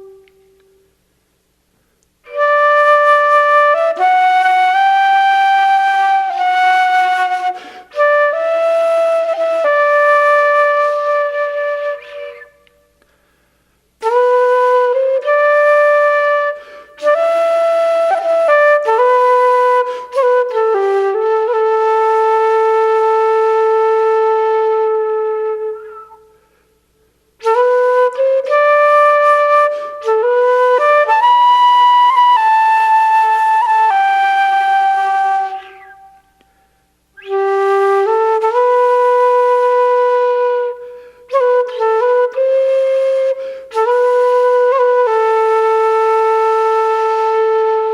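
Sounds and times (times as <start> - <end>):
flute playing long notes: 0.0 - 0.9, 2.2 - 13.1, 14.0 - 26.6, 27.4 - 47.9.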